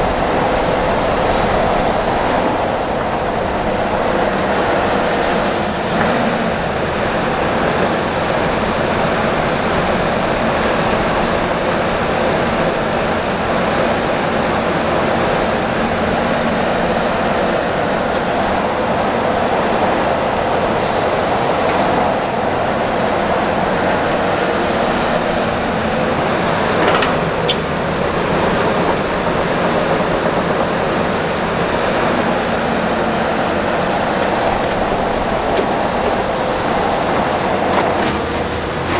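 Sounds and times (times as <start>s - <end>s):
excavator diesel engines running: 0.0s - 38.9s.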